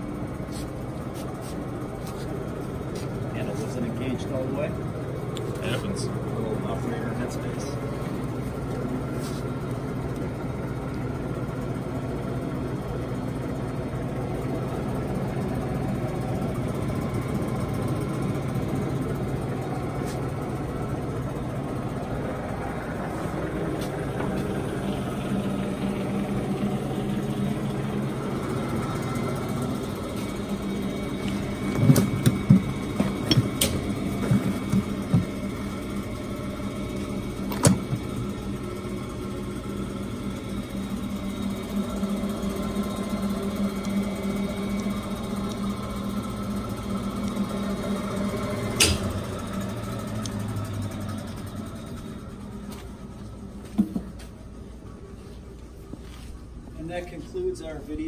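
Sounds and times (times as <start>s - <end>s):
lathe humming: 0.0s - 58.0s.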